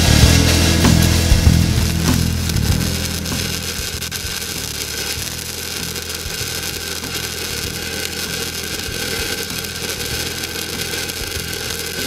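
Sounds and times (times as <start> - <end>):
welding arc crackling: 0.0 - 12.0.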